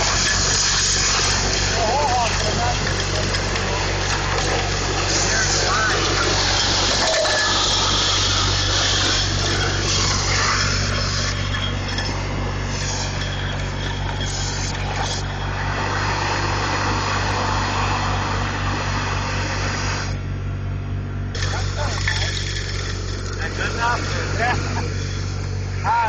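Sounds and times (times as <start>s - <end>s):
air water and gravel rushing: 0.0s - 20.3s, 21.3s - 26.0s
low engine hum: 0.0s - 26.0s.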